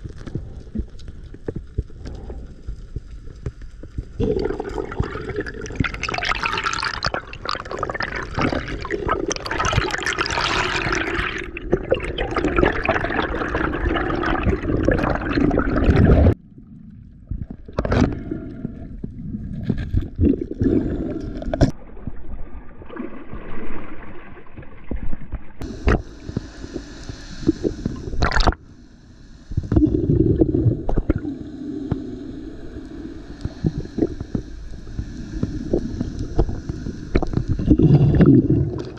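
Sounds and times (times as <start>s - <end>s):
water sloshing and gurgling: 0.0s - 28.8s, 29.6s - 38.9s.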